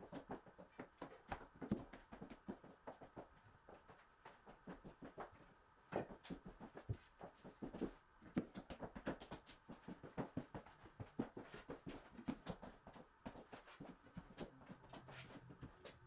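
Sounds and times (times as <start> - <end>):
footsteps clicking on wooden floor: 0.0 - 16.0.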